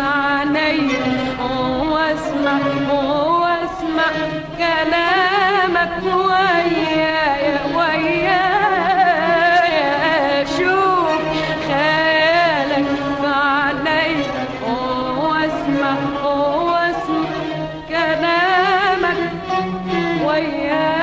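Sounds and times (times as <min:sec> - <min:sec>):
arabic classical song: 0:00.0 - 0:21.0.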